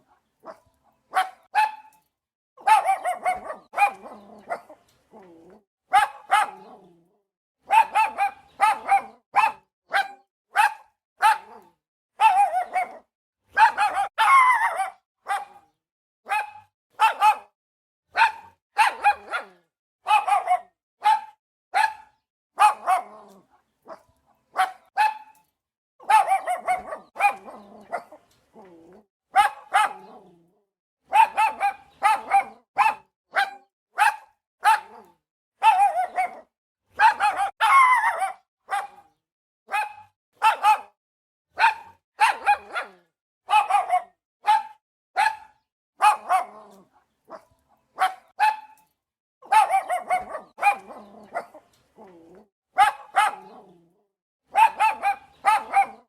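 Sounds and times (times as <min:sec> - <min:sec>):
dog barking: 0:00.0 - 0:02.0, 0:02.6 - 0:05.3, 0:05.9 - 0:07.0, 0:07.6 - 0:28.7, 0:29.3 - 0:30.4, 0:31.0 - 0:48.8, 0:49.4 - 0:53.9, 0:54.5 - 0:56.0.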